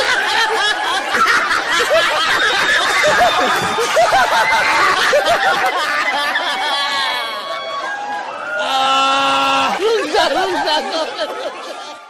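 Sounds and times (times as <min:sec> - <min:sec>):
man laughing loudly: 0:00.0 - 0:07.2, 0:09.4 - 0:12.0
audience laughing: 0:00.0 - 0:08.3, 0:09.4 - 0:12.0.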